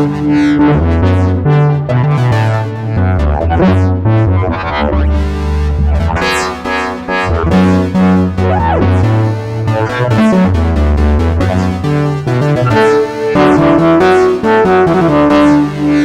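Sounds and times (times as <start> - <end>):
synth pitch bend: 0.0 - 16.0
synthesizer music: 0.0 - 16.0.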